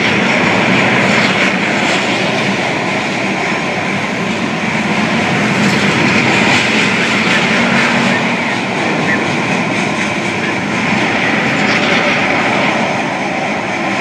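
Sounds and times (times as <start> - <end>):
train wheels running on rail: 0.0 - 14.0.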